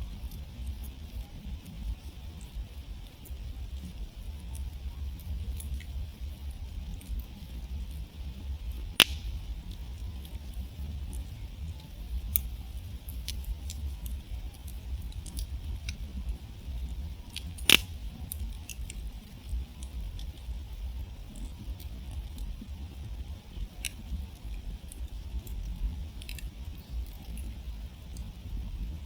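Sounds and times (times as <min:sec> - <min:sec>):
campfire crackling: 0:00.0 - 0:29.0
loud pops of burning wood: 0:00.1 - 0:28.7.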